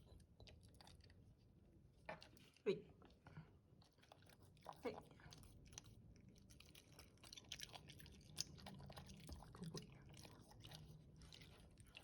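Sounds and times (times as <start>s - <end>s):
dog chewing and crunching food: 0.0s - 12.0s.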